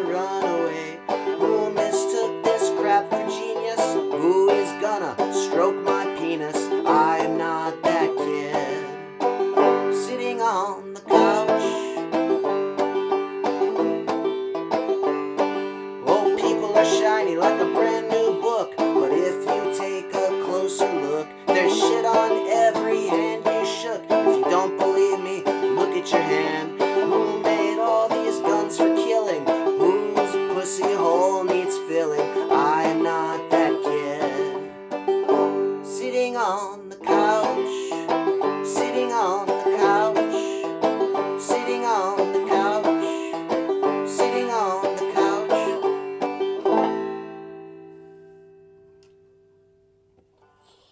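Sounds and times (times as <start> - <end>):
banjo playing: 0.0 - 49.1.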